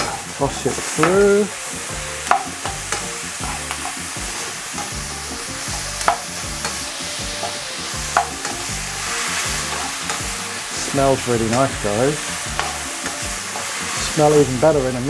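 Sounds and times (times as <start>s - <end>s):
spatula scraping and knocking pan: 0.0s - 14.4s
food sizzling in a wok: 0.0s - 15.0s.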